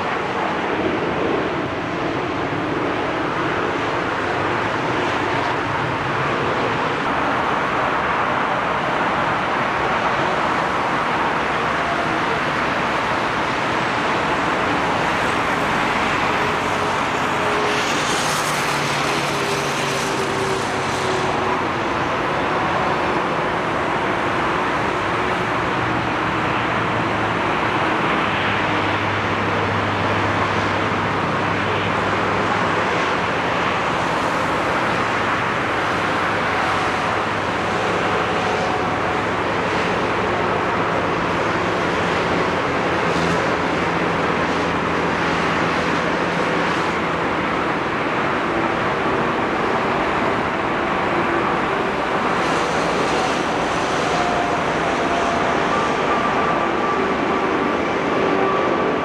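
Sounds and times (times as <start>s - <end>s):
jet engine noise: 0.0s - 59.0s.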